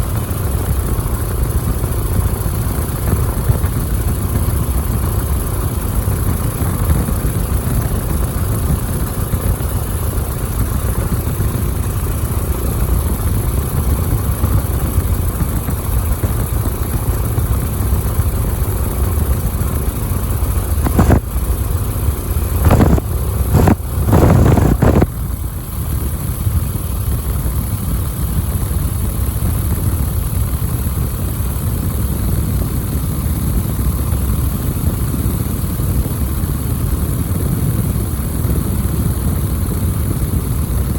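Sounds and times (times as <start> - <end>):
plane engine running: 0.0 - 40.9.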